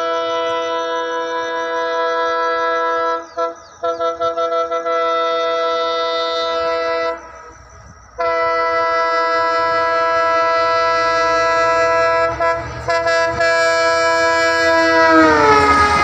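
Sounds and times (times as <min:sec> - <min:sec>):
train horn blast: 0:00.0 - 0:07.6, 0:08.2 - 0:16.0.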